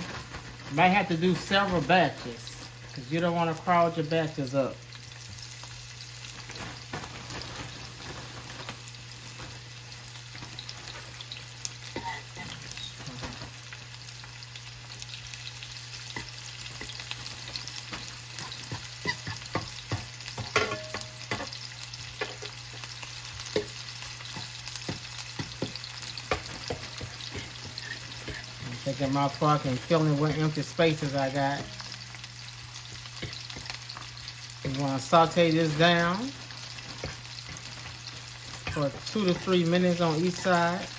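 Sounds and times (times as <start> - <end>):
meat sizzling in oil: 0.0 - 40.9.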